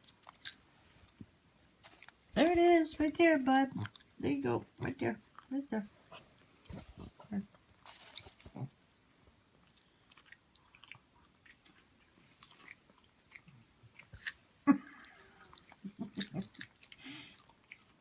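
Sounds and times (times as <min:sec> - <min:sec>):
pet crunching popcorn: 0:00.0 - 0:01.2, 0:01.8 - 0:08.8, 0:09.5 - 0:18.0.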